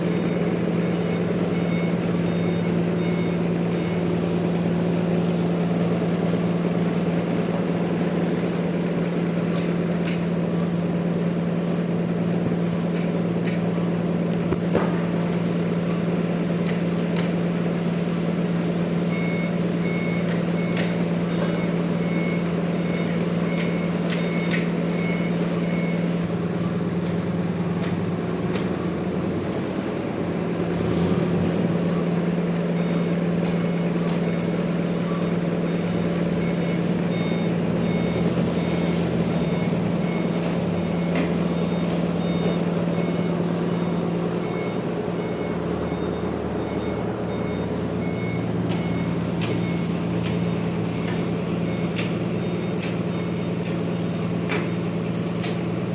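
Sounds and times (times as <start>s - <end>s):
reversing alarm beeps: 0.0s - 12.2s, 15.0s - 55.9s
low drone of machinery: 0.0s - 55.9s.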